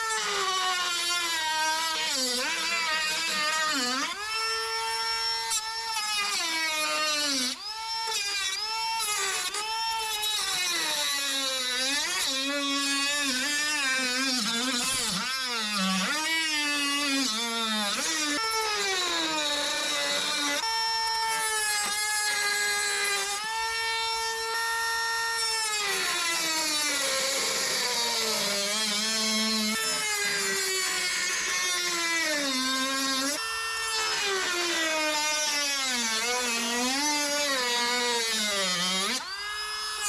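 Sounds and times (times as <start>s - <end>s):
power tool motor whining: 0.0s - 40.0s.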